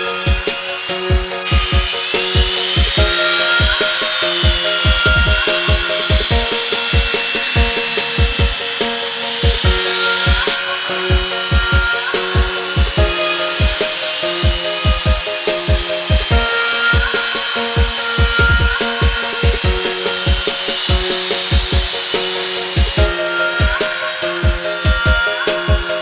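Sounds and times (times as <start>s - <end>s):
electronic music: 0.0s - 26.0s.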